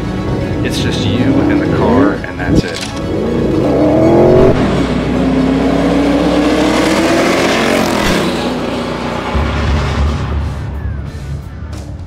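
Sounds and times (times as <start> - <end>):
car engine revving hard: 0.4 - 10.3.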